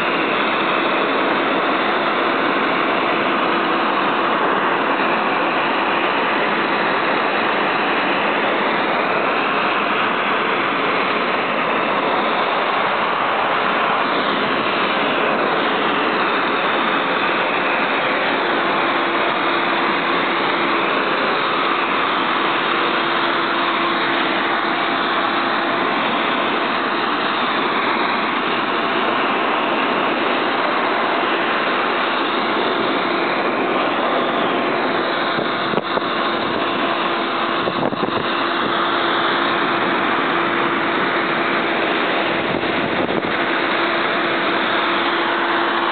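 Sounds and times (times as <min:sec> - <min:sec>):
dog grooming blower running: 0:00.0 - 0:45.9.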